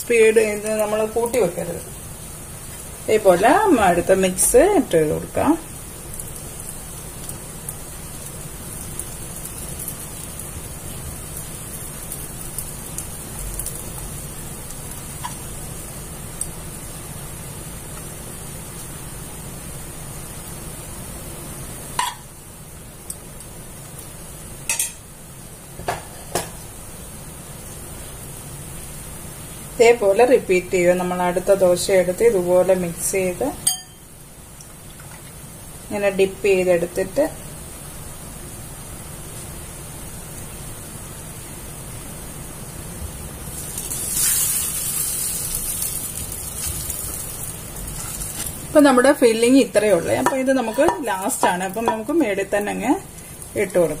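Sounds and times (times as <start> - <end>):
dough sizzling in hot oil: 0.0 - 54.0
food frying hiss: 0.0 - 54.0.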